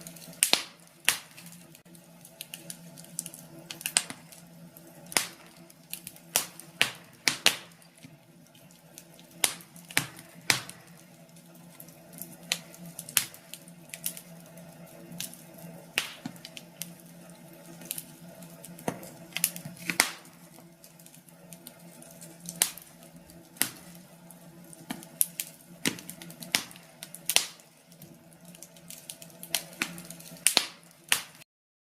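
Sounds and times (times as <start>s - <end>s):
wood fire crackling: 0.0s - 31.5s.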